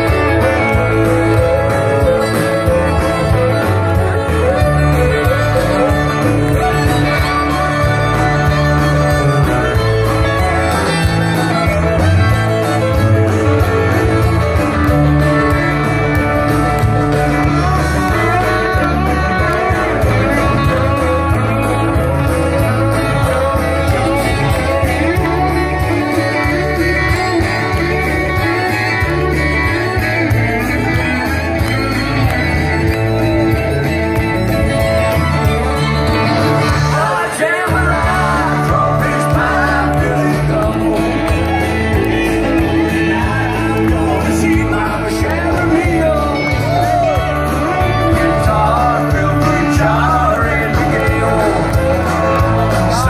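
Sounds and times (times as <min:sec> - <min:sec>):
live country band through speakers: 0:00.0 - 0:53.0.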